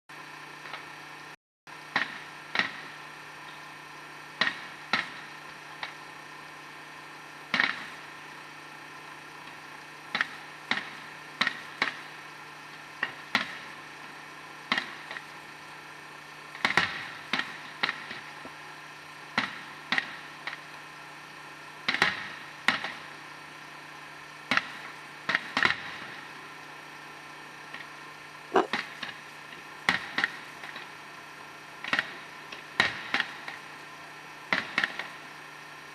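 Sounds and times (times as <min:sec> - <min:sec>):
background hum: 0:00.2 - 0:35.9.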